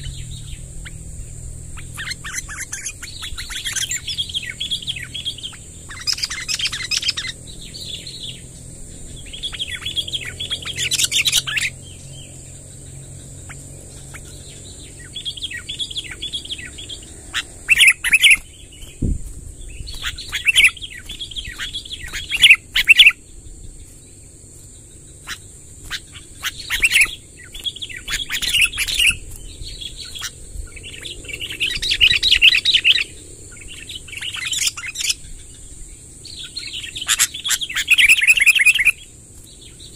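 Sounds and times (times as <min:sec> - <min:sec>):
bulbuls chirping song: 0:00.0 - 0:39.9.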